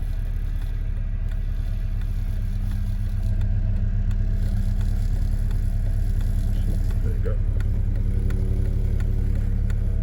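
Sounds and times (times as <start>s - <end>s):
car engine idling: 0.0s - 10.0s
faint engine tick: 0.0s - 10.0s.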